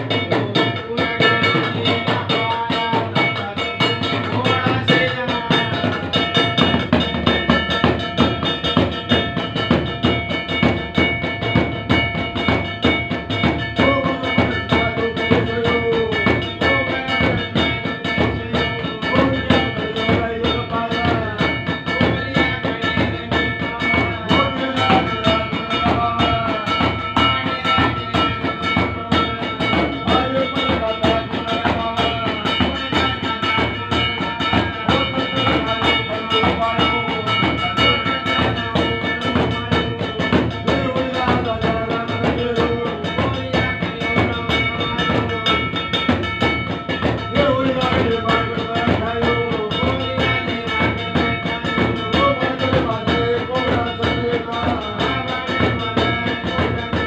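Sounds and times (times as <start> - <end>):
fast drum beat: 0.0 - 57.0.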